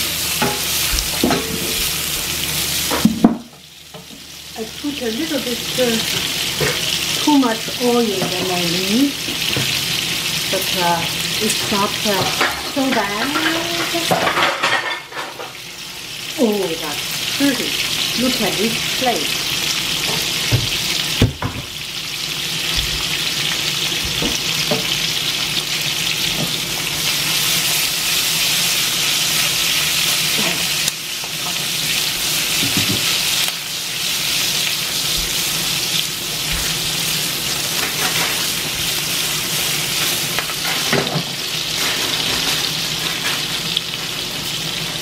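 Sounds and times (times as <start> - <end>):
peppers sizzling in oil: 0.0 - 45.0.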